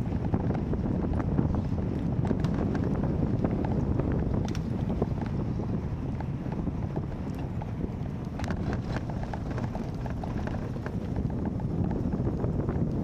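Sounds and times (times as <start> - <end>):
tyres rumbling on brick paving: 0.0 - 13.0
wind rushing over microphone: 0.0 - 13.0.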